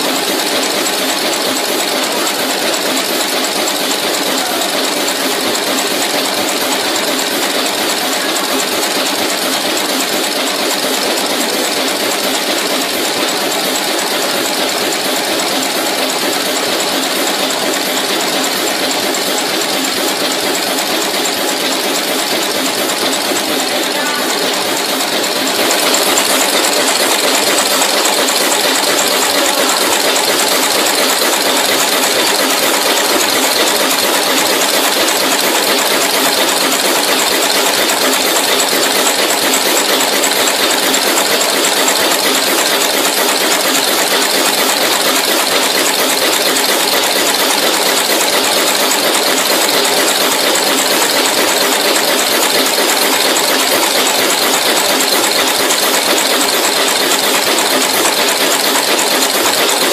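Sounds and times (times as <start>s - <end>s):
machine mechanical clatter: 0.0s - 59.9s.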